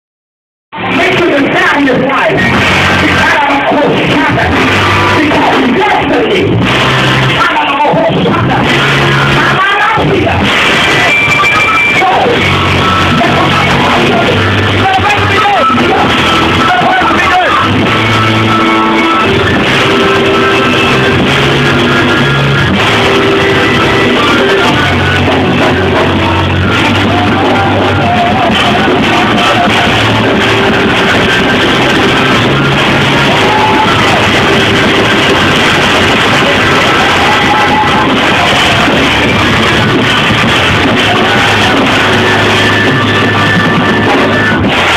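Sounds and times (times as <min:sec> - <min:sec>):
loud live band music: 0:00.8 - 0:44.9.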